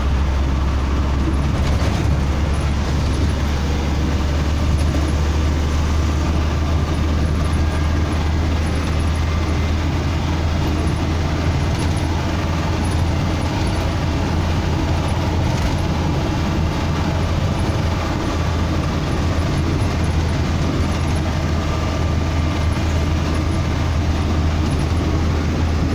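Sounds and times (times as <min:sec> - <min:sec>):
road noise: 0:00.0 - 0:25.9
truck diesel engine drone: 0:00.0 - 0:25.9.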